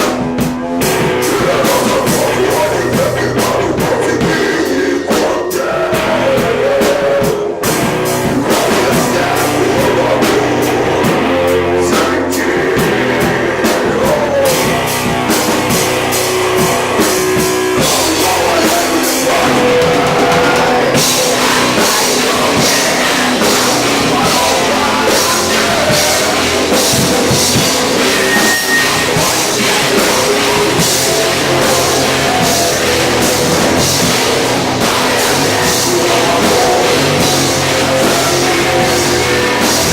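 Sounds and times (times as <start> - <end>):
bass guitar: 0.0 - 39.9
distorted guitars: 0.0 - 39.9
pounding drum kit: 0.0 - 39.9
rock vocals: 0.0 - 39.9.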